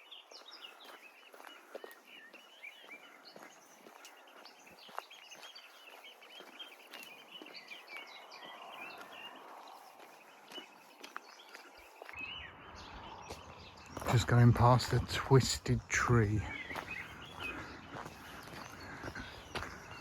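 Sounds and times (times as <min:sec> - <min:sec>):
light footsteps on path: 0:00.0 - 0:20.0
songbirds chorus: 0:00.0 - 0:20.0.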